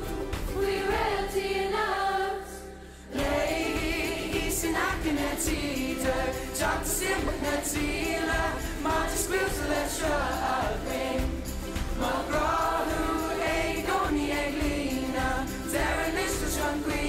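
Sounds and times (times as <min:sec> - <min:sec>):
musical accompaniment: 0:00.0 - 0:17.0
voices singing together: 0:00.0 - 0:17.0.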